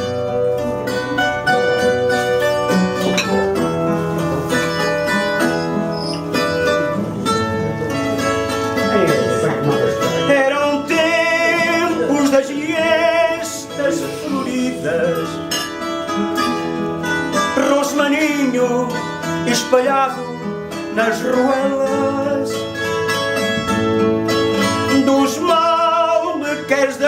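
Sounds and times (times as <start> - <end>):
plucked guitar melody: 0.0 - 27.0
strummed guitar chords: 0.0 - 27.0.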